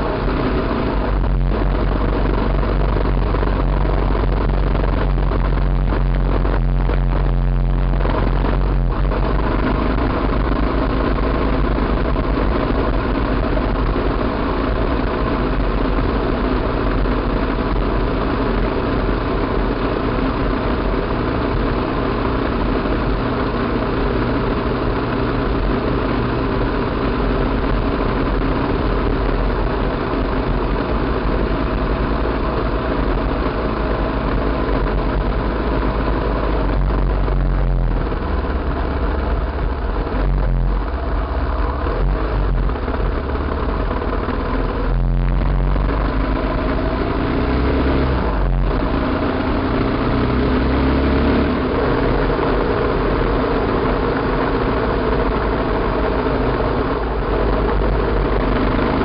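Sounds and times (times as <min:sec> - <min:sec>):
deep rumble: 0:00.0 - 0:59.0
motorcycle engine running: 0:00.0 - 0:59.0.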